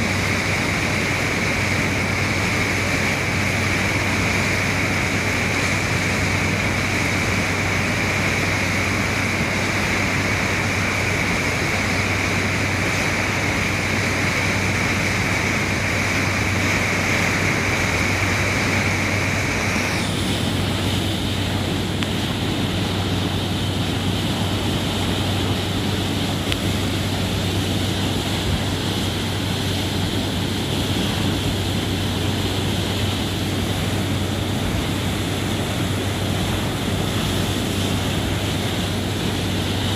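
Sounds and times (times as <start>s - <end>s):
churning water rushing: 0.0s - 39.9s
low engine drone: 0.0s - 39.9s.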